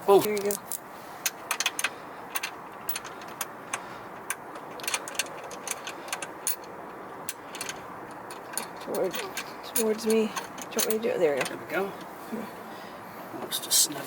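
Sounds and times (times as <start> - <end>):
steady low hiss: 0.0 - 14.0
small parts clicking and rattling: 0.2 - 12.1.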